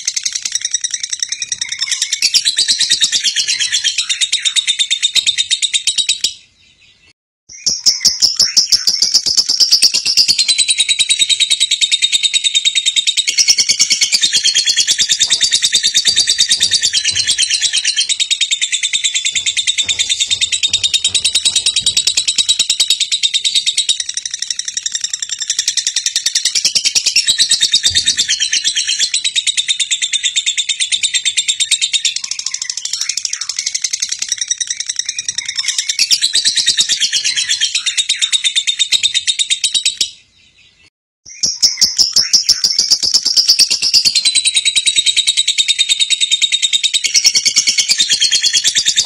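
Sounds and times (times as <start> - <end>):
birds chirping: 0.1 - 42.9.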